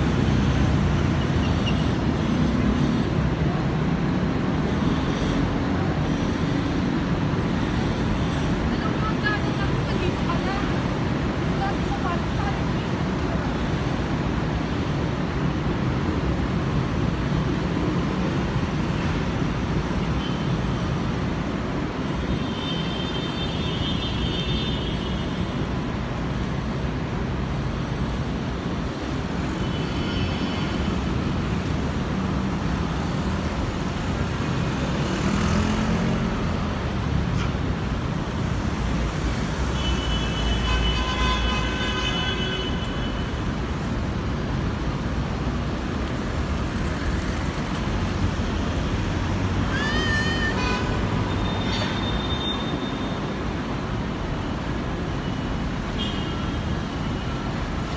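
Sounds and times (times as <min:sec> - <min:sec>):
street traffic noise: 0:00.0 - 0:57.9.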